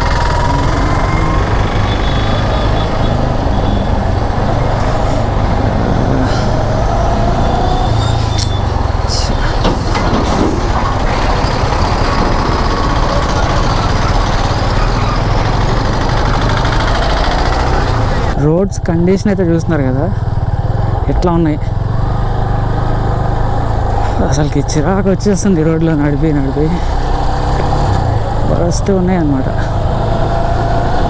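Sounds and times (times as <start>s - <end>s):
motorcycle engine and road rumble: 0.0s - 31.0s.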